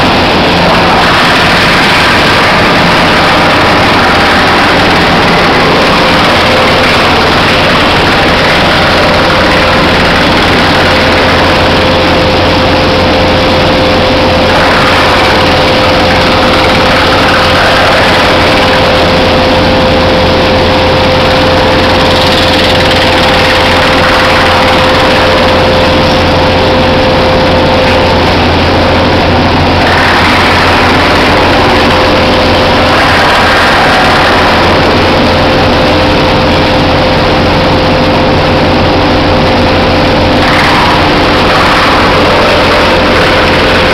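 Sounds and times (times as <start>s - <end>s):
belt conveyor carrying wood chips: 0.0s - 43.9s
machinery drone with mid-pitched hum: 0.0s - 43.9s.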